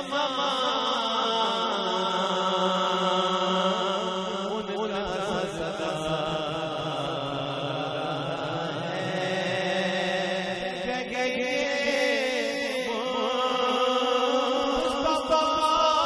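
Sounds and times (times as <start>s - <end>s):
man singing through a microphone: 0.0s - 16.0s.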